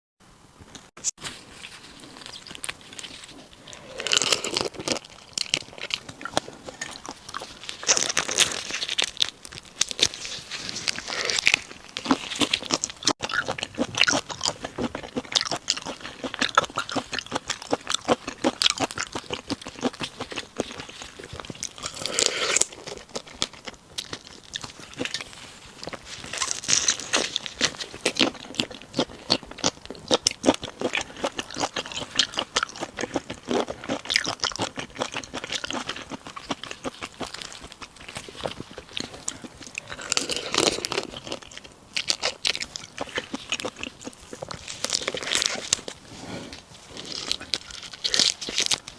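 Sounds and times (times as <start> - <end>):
chewing crunchy food: 0.8 - 48.9.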